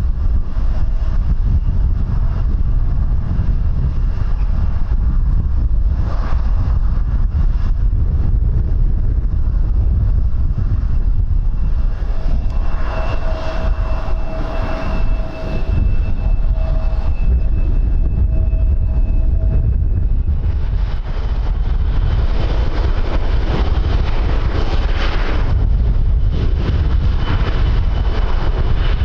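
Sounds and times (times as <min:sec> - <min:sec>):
aircraft engines whining: 0:00.0 - 0:29.0
wind buffeting microphone: 0:00.0 - 0:29.0.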